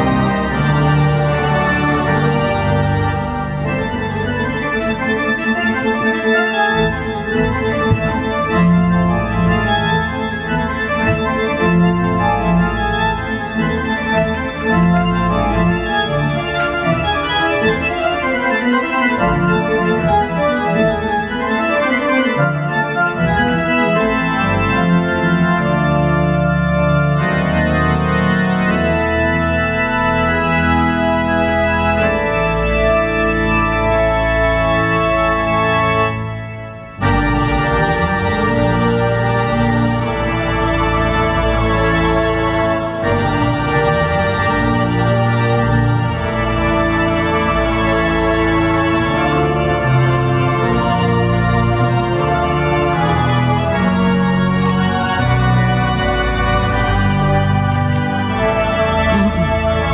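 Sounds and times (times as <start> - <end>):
organ-like keyboard music: 0.0 - 59.9.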